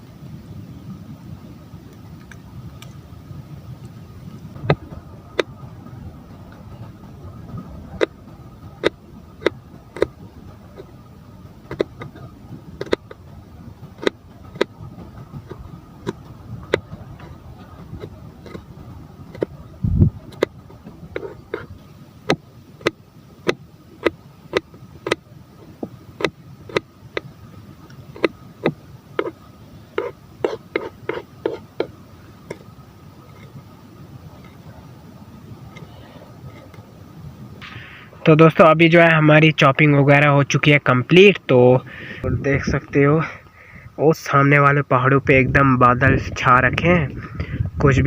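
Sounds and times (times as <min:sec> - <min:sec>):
low rumble: 0:00.0 - 0:30.4, 0:32.0 - 0:48.0.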